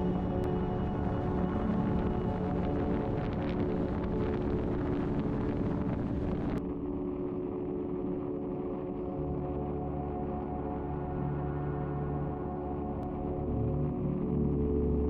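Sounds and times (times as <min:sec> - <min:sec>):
ambient drone music: 0:00.0 - 0:15.0.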